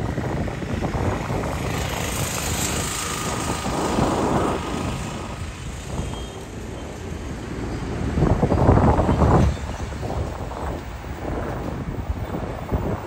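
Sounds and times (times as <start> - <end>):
road traffic rumble: 0.0 - 13.0
wind buffeting microphone: 0.0 - 13.0.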